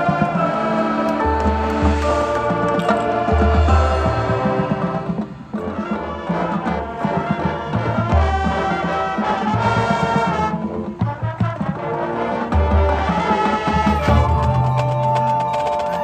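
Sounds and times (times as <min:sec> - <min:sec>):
marching band playing: 0:00.0 - 0:16.0
percussion strikes: 0:00.0 - 0:16.0.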